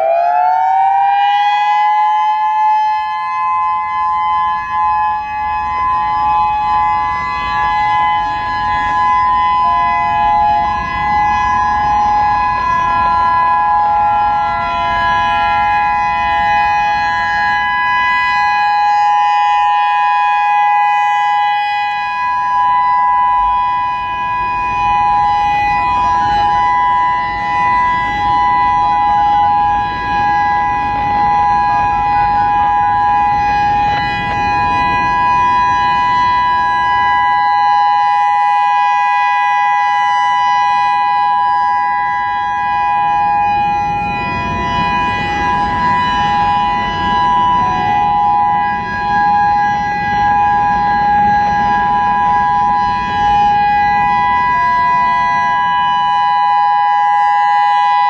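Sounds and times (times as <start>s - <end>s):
electronic warning siren steady chord: 0.0s - 58.0s.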